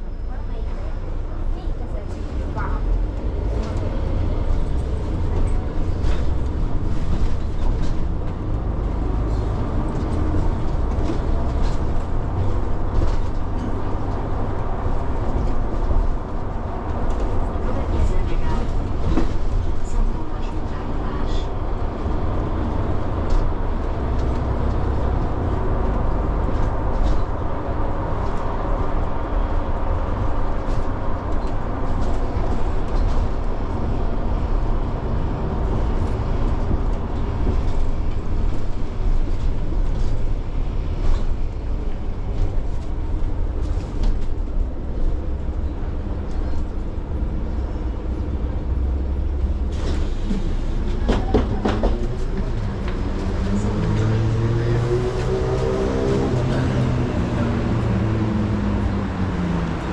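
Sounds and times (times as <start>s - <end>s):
city bus engine rumble: 0.0s - 59.9s.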